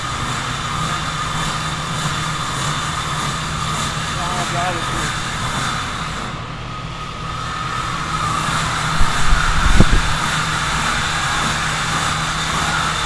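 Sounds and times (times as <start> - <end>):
blower roaring: 0.0 - 13.0.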